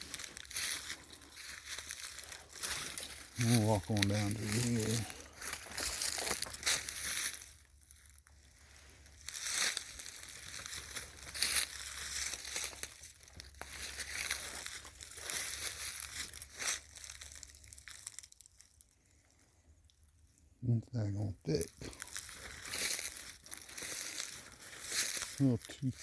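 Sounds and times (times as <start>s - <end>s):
footsteps crunching on frozen ground: 0.0s - 18.7s, 21.1s - 26.0s.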